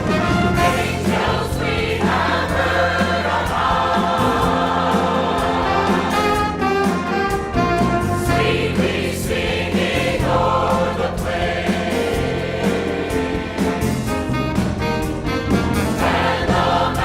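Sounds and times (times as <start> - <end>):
choir singing: 0.0 - 7.3, 8.0 - 14.4, 15.8 - 17.0
orchestra playing: 0.0 - 17.0.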